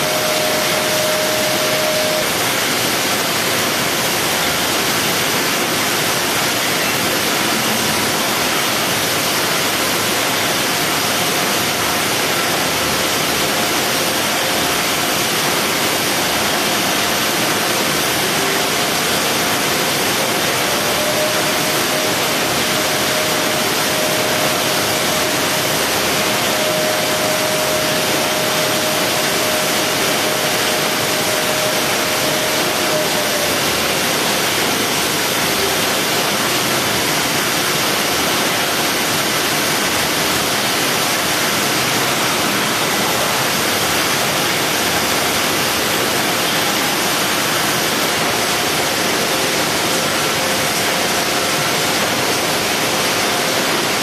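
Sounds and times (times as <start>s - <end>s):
faint steady whine: 0.0s - 54.0s
hiss-like factory machine noise: 0.0s - 54.0s.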